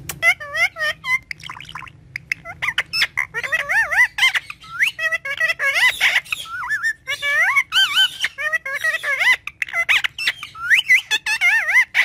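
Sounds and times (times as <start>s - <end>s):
parrot chattering: 0.1s - 12.0s.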